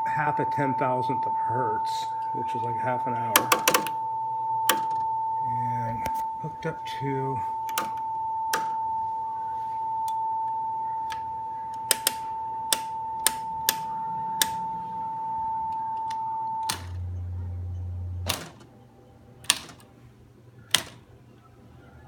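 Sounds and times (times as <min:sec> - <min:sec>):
steady high electronic tone: 0:00.0 - 0:19.4
low hum: 0:00.0 - 0:22.0.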